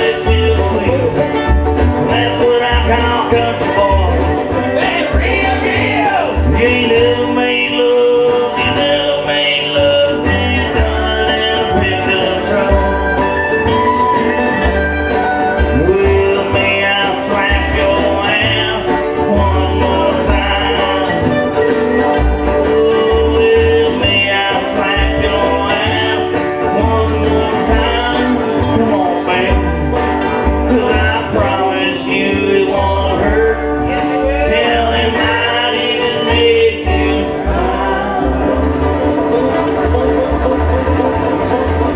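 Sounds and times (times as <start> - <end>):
acoustic guitar: 0.0 - 41.9
banjo: 0.0 - 41.9
dobro: 0.0 - 41.9
washtub bass pulse: 0.0 - 41.9.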